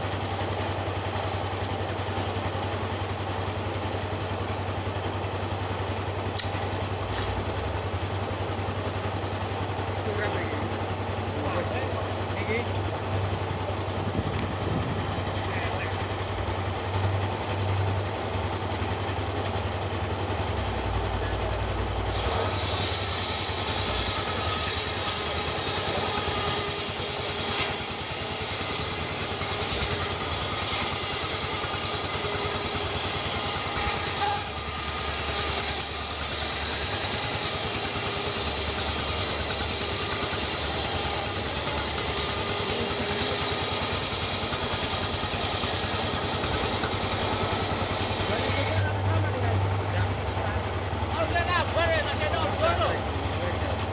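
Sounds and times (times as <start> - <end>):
small engine running: 0.0 - 53.9.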